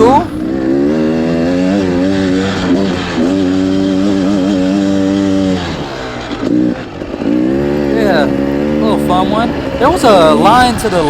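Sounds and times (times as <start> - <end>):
two-stroke dirt bike engine: 0.0 - 11.0.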